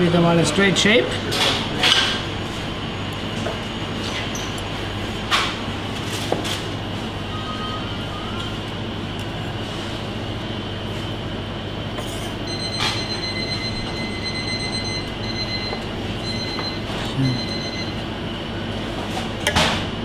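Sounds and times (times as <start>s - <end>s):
commercial kitchen hum: 0.0s - 20.0s.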